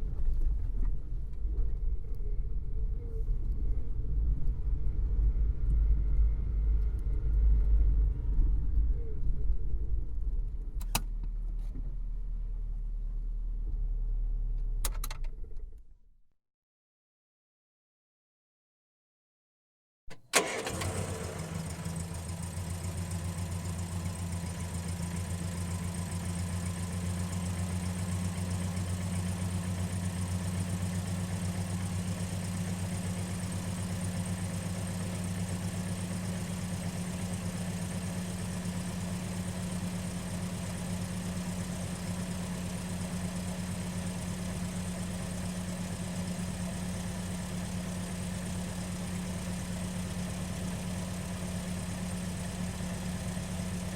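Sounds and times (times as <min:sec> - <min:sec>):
car engine starting and idling: 0:04.9 - 0:15.9, 0:20.1 - 0:53.9.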